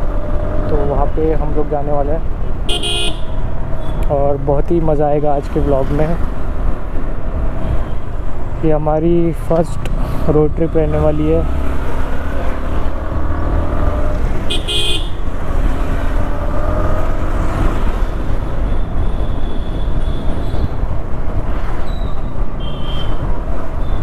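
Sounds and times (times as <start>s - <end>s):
wind and road noise rumble: 0.0s - 24.0s.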